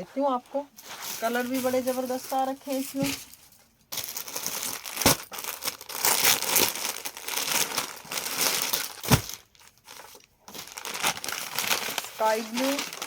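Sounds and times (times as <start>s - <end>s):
fabric crinkling and rustling: 0.0s - 13.0s.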